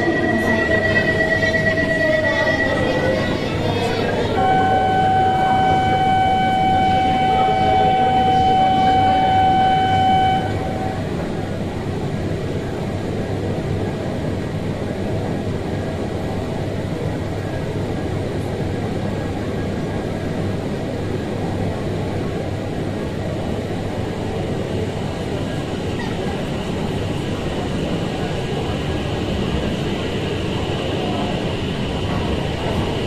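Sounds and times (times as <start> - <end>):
train rumble and hum: 0.0 - 33.0.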